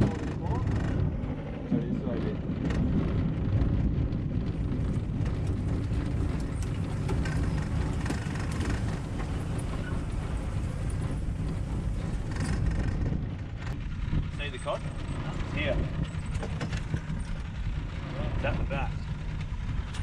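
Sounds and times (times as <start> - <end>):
outboard motor rumbling: 0.0 - 20.0.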